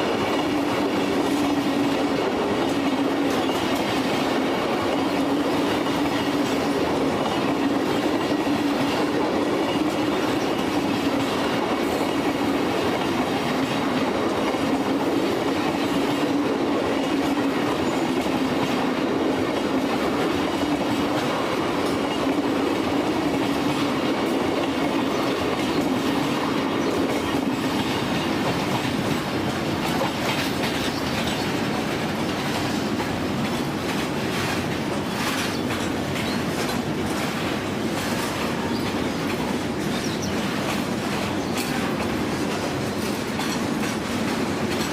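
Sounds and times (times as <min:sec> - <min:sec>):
steady train hum: 0:00.0 - 0:44.9
train wheels clattering: 0:00.0 - 0:44.9.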